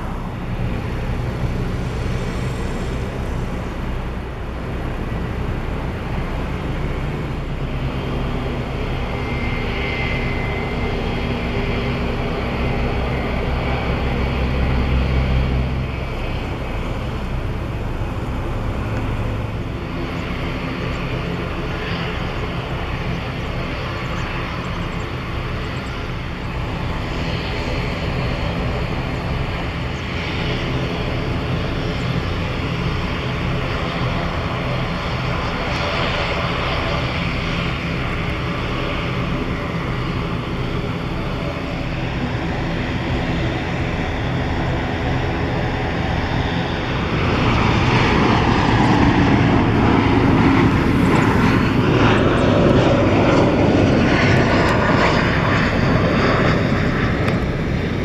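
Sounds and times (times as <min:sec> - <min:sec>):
jet engines humming with whine: 0:00.0 - 0:58.0
jet roar passing close: 0:00.0 - 0:58.0.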